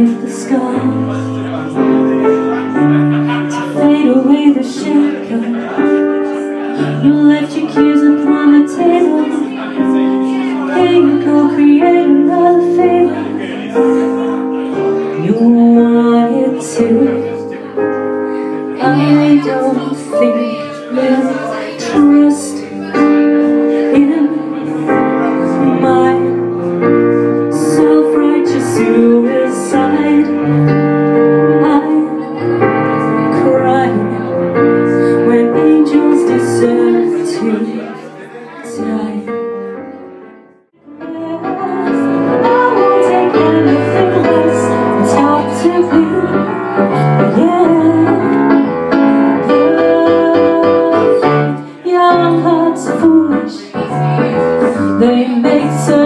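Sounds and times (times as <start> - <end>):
woman singing: 0.0 - 1.2, 3.5 - 5.8, 6.8 - 13.7, 14.6 - 17.5, 18.7 - 26.6, 27.4 - 30.6, 31.2 - 39.8, 40.8 - 48.7, 49.3 - 56.0
piano: 0.0 - 56.0.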